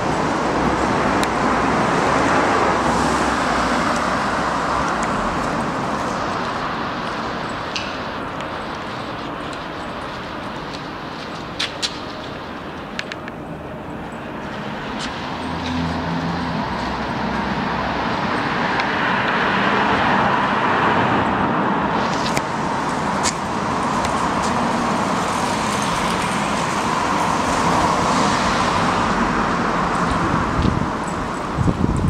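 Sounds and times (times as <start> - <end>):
passing cars: 0.0 - 32.0.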